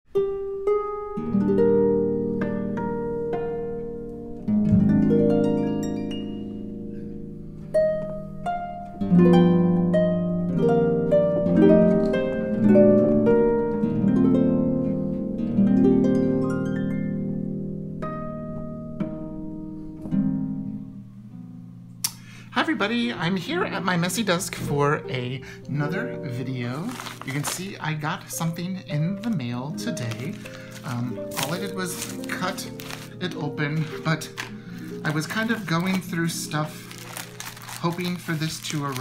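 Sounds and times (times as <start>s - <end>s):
plucked harp-like melody: 0.1s - 22.1s, 22.8s - 39.0s.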